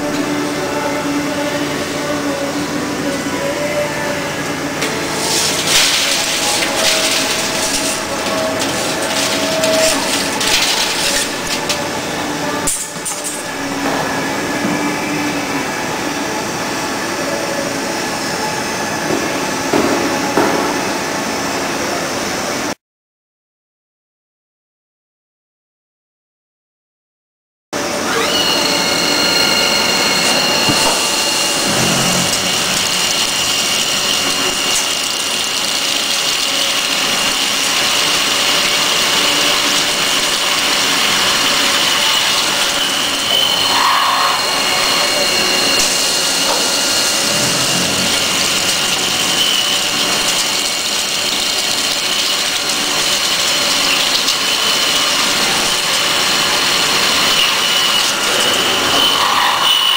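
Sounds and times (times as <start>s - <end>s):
drill cutting metal with whine: 0.0s - 20.4s, 27.8s - 59.9s.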